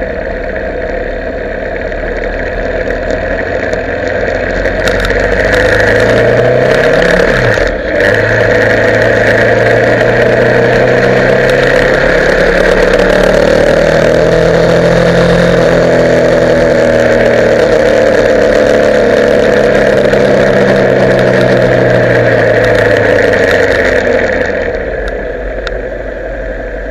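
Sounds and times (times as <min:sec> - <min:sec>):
motorcycle engine running: 0:00.0 - 0:26.9
wind and road noise: 0:00.0 - 0:26.9.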